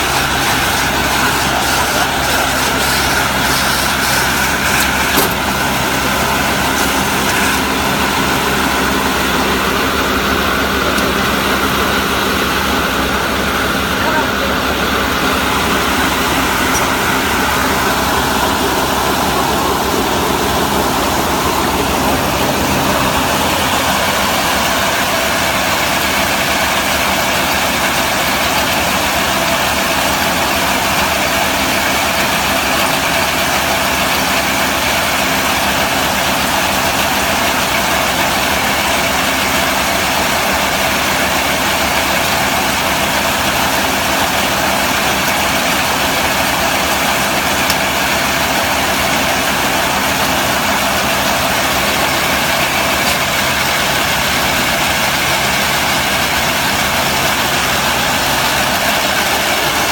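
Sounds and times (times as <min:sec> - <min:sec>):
hay baler running: 0:00.0 - 0:59.9.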